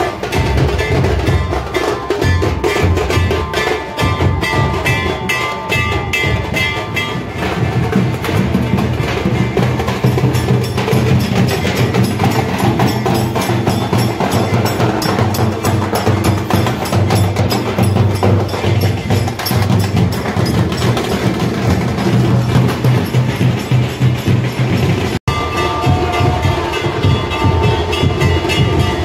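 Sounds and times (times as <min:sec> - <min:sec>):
dhol drums beaten with sticks: 0:00.0 - 0:29.0.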